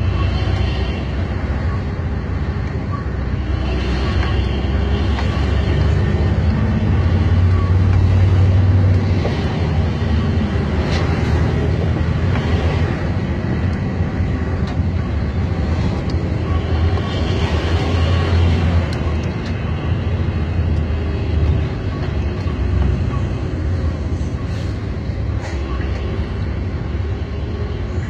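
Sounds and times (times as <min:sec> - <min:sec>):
road noise: 0:00.0 - 0:28.0
vehicle engine drone: 0:00.0 - 0:28.0.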